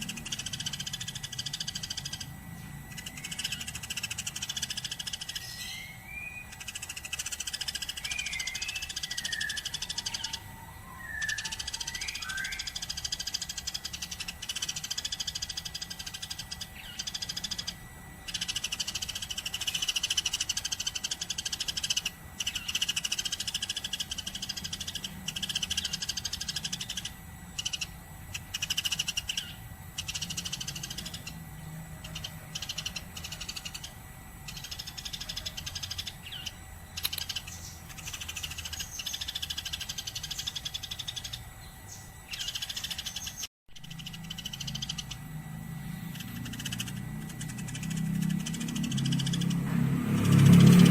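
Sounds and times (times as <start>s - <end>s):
sparrows chirping: 0.0s - 50.9s.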